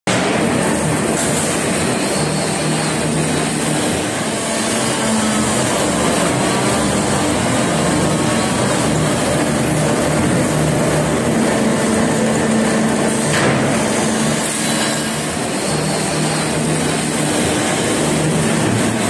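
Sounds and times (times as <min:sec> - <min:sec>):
machine running: 0:00.1 - 0:19.0.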